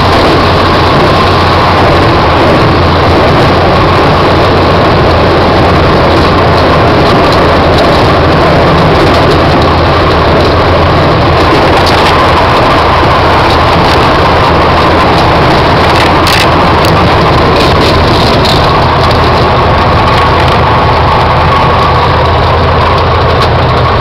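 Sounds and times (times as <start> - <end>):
light aircraft engine and propeller: 0.0 - 24.0.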